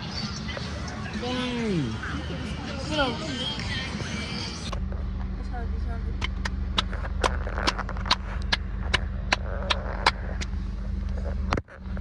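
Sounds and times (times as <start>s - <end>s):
car engine drone from inside: 0.0s - 12.0s.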